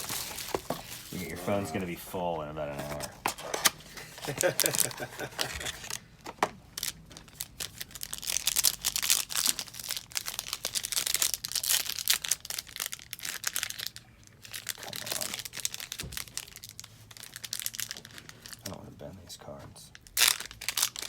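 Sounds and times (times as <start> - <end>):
card pack wrapper crinkling and tearing: 0.0 - 2.0, 2.7 - 6.1, 6.7 - 18.7, 20.0 - 21.0.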